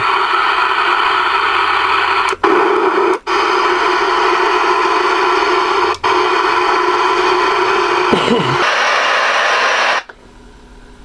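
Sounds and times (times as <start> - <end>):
radio static hiss: 0.0 - 10.1.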